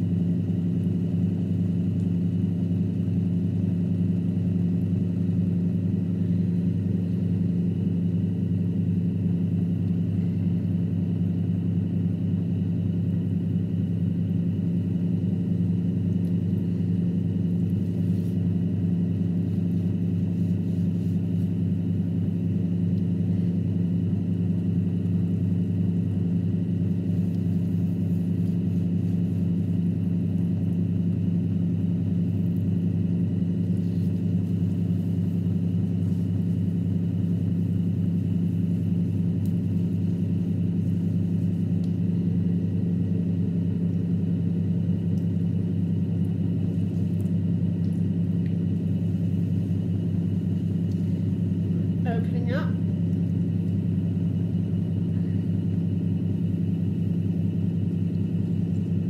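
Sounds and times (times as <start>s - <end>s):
potter's wheel motor humming: 0.0s - 59.0s.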